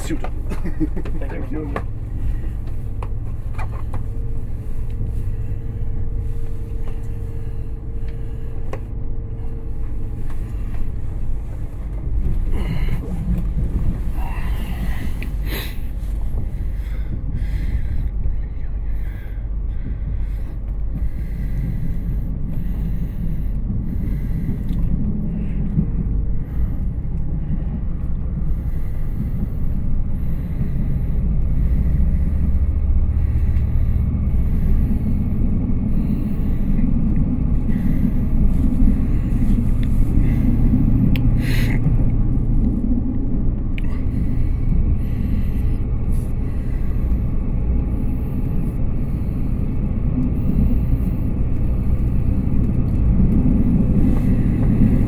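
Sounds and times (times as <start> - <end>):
train carriage rumble: 0.0 - 55.0.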